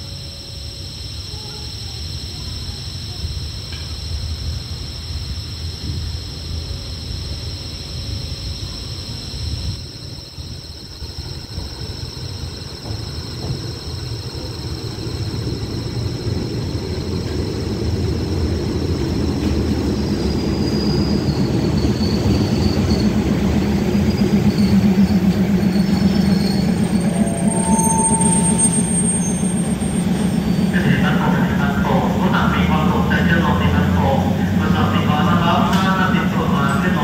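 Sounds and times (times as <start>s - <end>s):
diesel train rumble: 0.0s - 37.0s
train brakes squealing: 5.6s - 37.0s.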